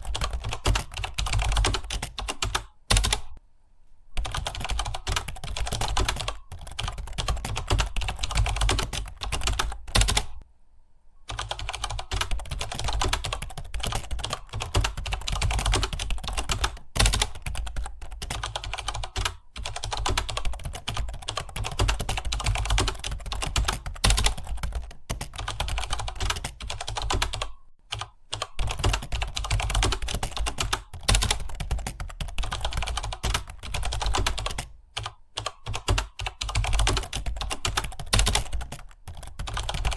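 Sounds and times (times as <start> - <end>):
fast typing on computer keyboard: 0.0 - 3.4, 4.2 - 10.4, 11.3 - 39.9.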